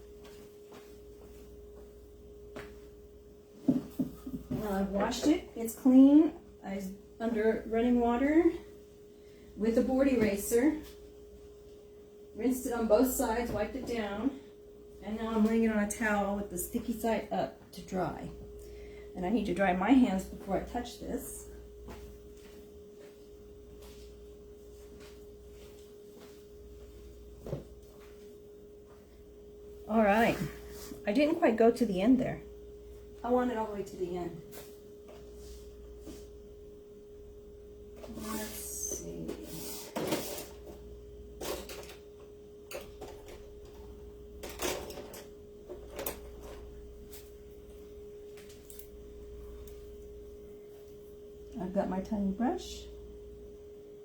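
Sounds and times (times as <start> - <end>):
faint electrical tone: 4.2 - 54.0.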